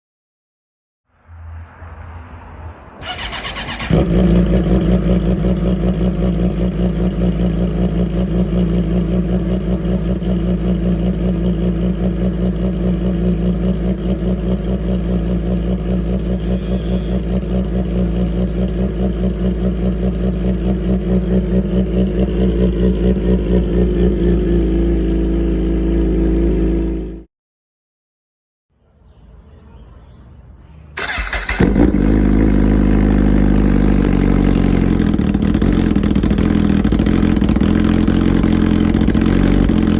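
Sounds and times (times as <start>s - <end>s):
motorcycle engine idling: 3.0s - 27.2s, 31.0s - 39.9s.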